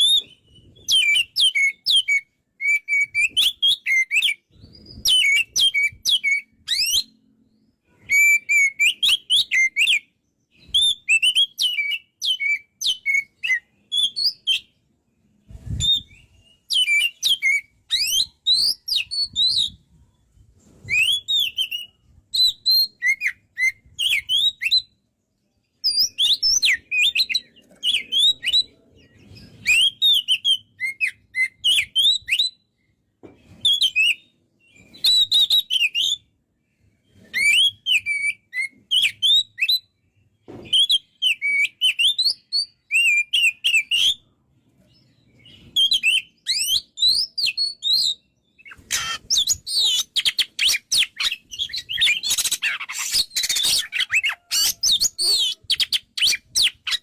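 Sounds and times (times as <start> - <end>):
bird singing whistled notes: 0.0 - 14.8, 15.5 - 20.2, 20.8 - 25.1, 25.8 - 32.9, 33.5 - 44.4, 45.0 - 57.0.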